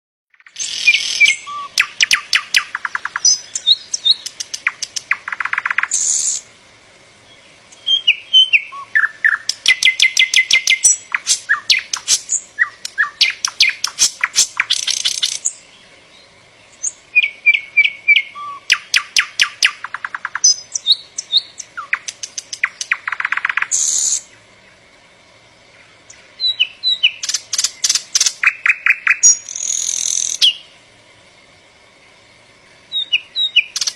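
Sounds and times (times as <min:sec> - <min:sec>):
songbird singing: 0:00.3 - 0:33.9.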